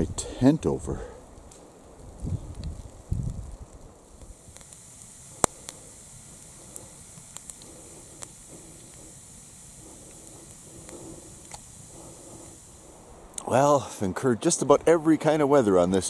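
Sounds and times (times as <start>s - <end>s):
campfire hissing and crackling: 0.0s - 16.0s.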